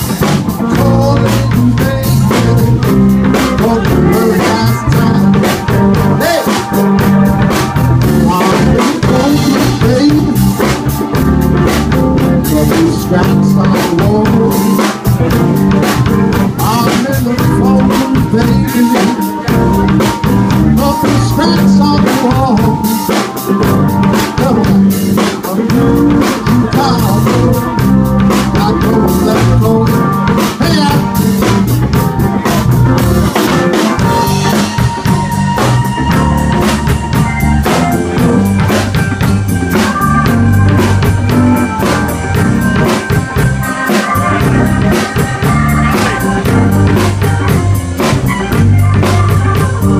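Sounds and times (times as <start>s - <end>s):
blues band playing: 0.0s - 49.9s
drum kit beat: 0.0s - 49.9s.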